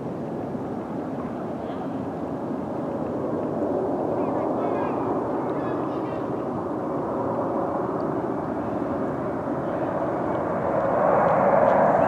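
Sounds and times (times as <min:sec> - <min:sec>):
jet airliner engines droning: 0:00.0 - 0:12.0.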